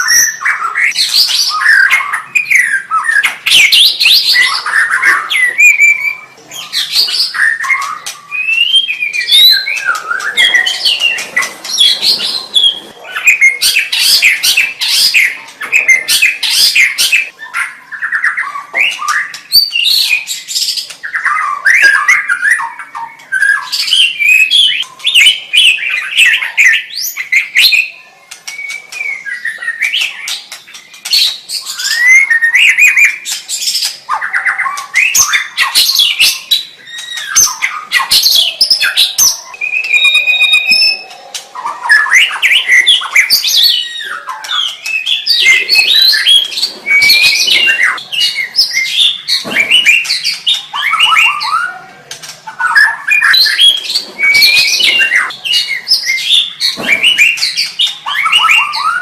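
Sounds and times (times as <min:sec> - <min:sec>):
bird singing whistled notes: 0:00.0 - 0:51.8, 0:52.6 - 0:59.0.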